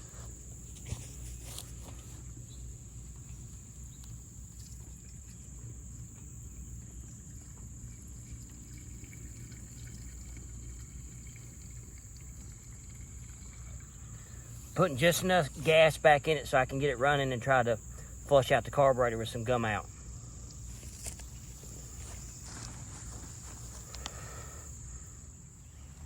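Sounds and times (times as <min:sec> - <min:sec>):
gasoline trickling into tank: 0:00.0 - 0:24.8.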